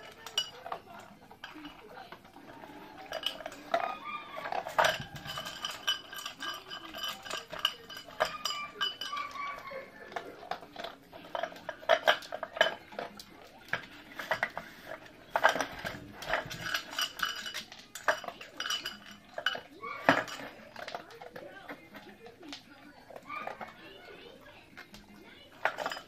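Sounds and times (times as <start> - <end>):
metal muffin tin clattering: 0.0 - 26.0.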